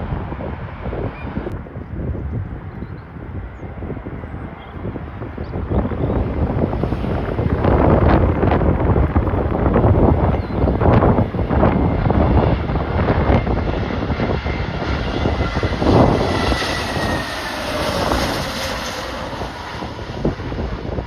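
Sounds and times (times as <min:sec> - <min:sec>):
jet engines with faint whine: 0:00.0 - 0:21.0
wind buffeting microphone: 0:00.0 - 0:21.0.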